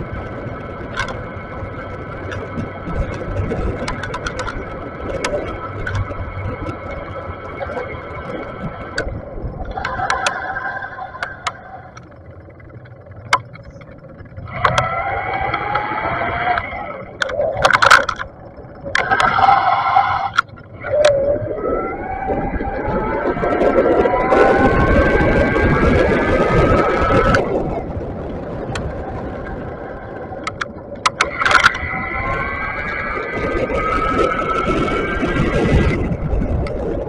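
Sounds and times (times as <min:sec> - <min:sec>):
bike clicks and rattles: 0:00.0 - 0:37.0
e-bike motor whining: 0:00.0 - 0:37.0
street traffic: 0:00.0 - 0:37.0.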